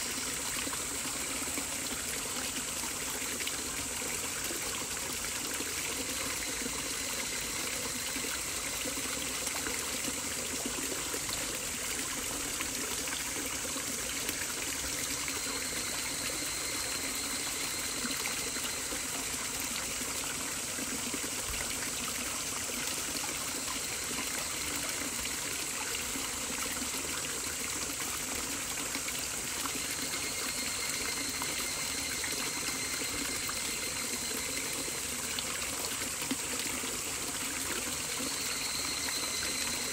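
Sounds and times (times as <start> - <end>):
stream trickling and gushing: 0.0 - 39.9.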